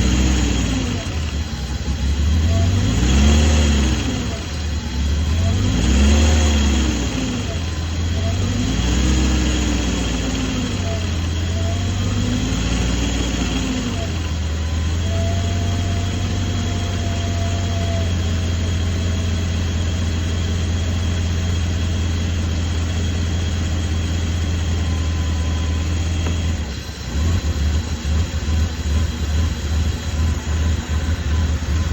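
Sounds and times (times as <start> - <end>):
car engine idling roughly: 0.0 - 31.9.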